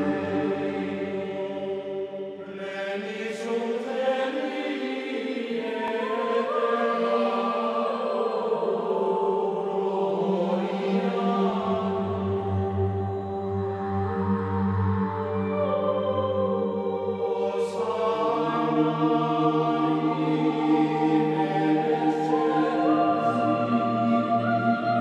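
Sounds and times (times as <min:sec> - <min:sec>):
male choral chant: 0:00.0 - 0:25.0.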